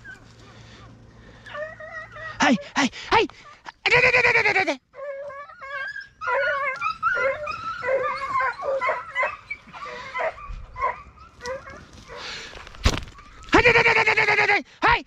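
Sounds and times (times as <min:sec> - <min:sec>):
hounds yelping and baying: 0:00.0 - 0:13.9.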